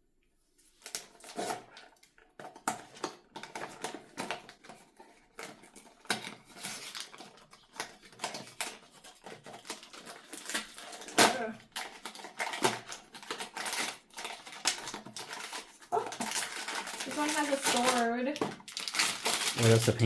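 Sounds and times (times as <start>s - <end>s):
cardboard and plastic crinkling: 0.6s - 20.0s.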